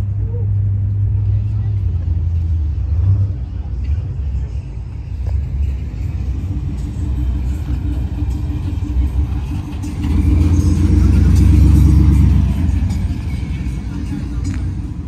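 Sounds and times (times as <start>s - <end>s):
car engine rolling past: 0.0s - 15.0s.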